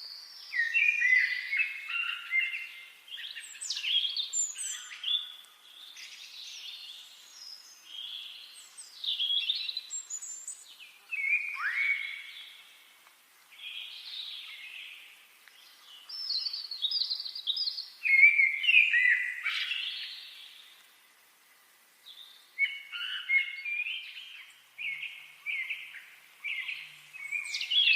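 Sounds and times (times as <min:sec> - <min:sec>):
songbirds singing: 0:00.0 - 0:27.9.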